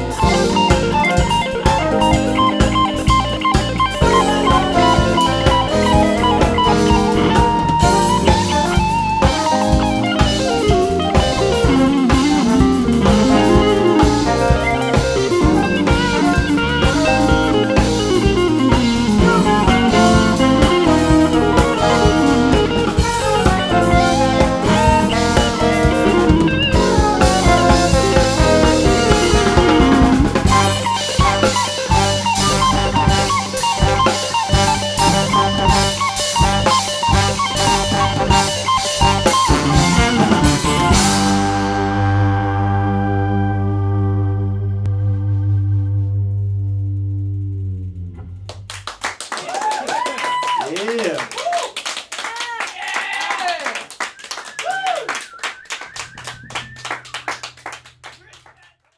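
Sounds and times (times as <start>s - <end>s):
funk jazz band playing: 0.0s - 49.2s, 54.0s - 58.6s
electric guitar lead: 0.0s - 49.7s, 54.3s - 58.5s.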